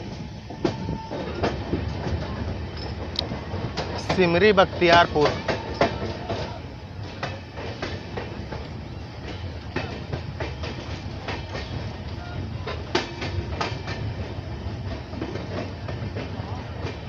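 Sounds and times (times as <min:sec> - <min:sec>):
train coach low rumble: 0:00.0 - 0:17.0
wheels clacking over rails: 0:00.0 - 0:17.0.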